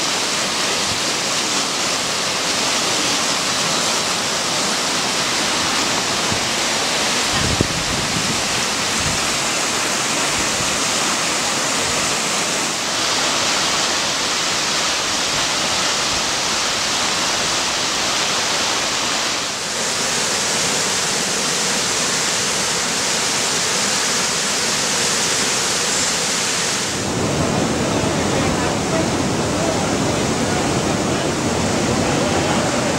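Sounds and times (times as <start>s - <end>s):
floodwater rushing: 0.0s - 32.9s.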